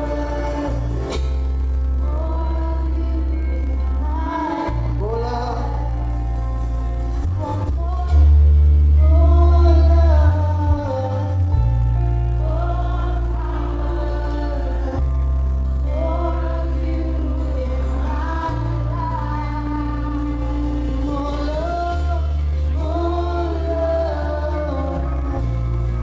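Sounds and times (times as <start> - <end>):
people singing: 0.0 - 6.3, 7.1 - 26.0.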